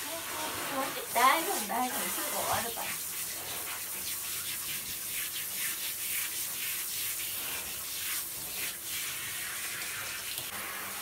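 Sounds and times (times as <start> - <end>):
shower spraying water: 0.0 - 11.0.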